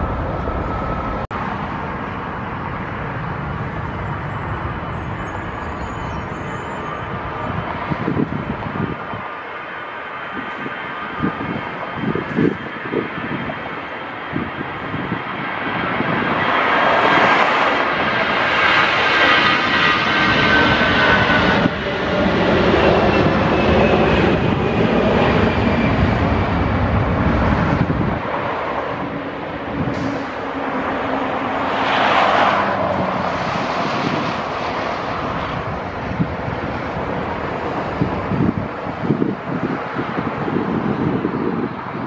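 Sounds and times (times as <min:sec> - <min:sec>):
jet engines roaring with whine: 0:00.0 - 0:42.0.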